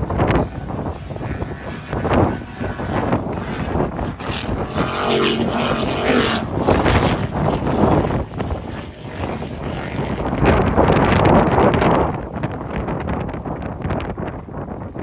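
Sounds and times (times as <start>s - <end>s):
distant powerboat engines: 0.0s - 13.4s
wind buffeting microphone: 0.0s - 15.0s.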